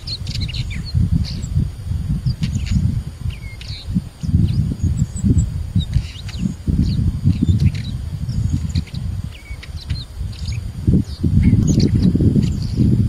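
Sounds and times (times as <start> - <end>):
small birds chirping: 0.0 - 13.0
wind buffeting microphone: 0.0 - 13.0.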